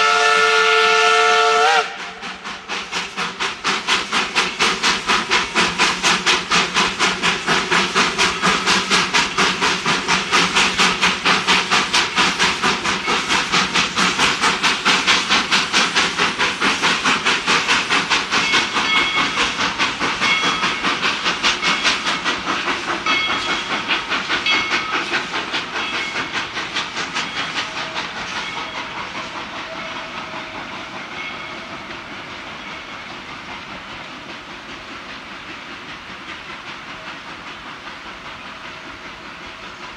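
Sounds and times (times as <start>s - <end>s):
steam hiss: 0.0s - 39.9s
steam locomotive chuffing: 0.0s - 39.9s.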